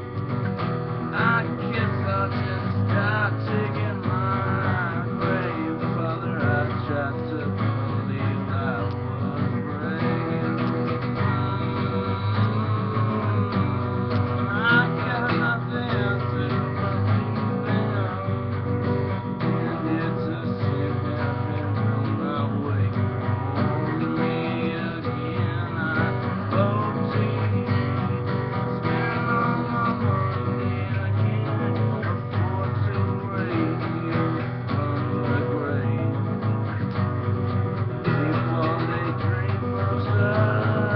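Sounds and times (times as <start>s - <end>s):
acoustic guitar strumming: 0.0s - 40.9s.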